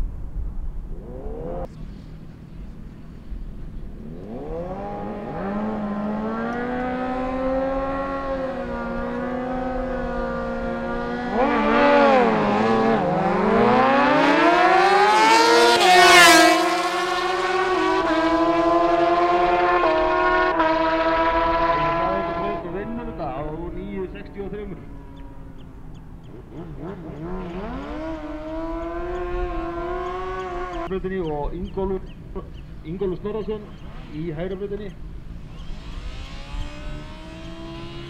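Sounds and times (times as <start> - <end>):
motorcycle engines revving: 0.8 - 38.0.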